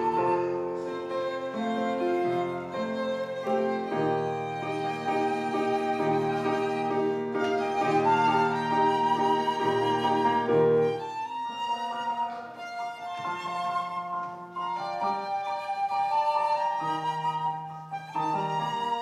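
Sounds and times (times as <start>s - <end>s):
flute violin and piano trio: 0.0s - 19.0s.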